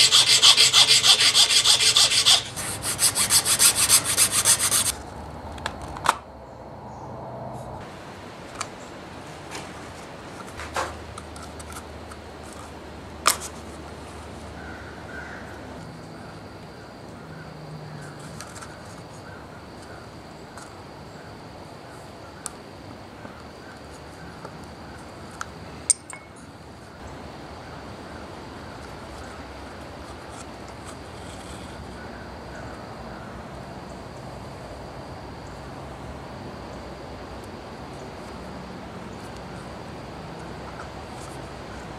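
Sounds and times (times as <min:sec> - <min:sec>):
steady low hiss: 0:07.7 - 0:41.9.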